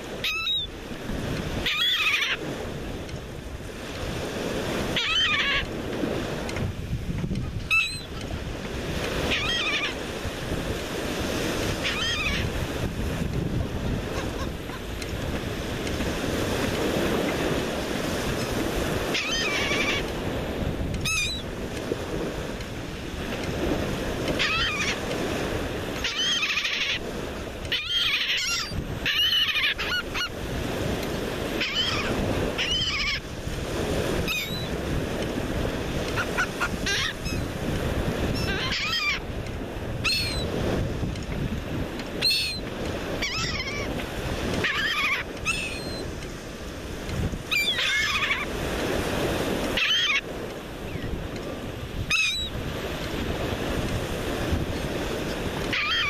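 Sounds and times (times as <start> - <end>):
gulls calling: 0.0 - 2.7, 3.7 - 6.4, 7.4 - 21.6, 24.2 - 30.8, 31.4 - 33.3, 34.1 - 40.6, 42.1 - 46.2, 47.4 - 51.2, 52.0 - 53.6, 54.2 - 56.0
surf breaking on shore: 0.0 - 27.8, 28.6 - 56.0.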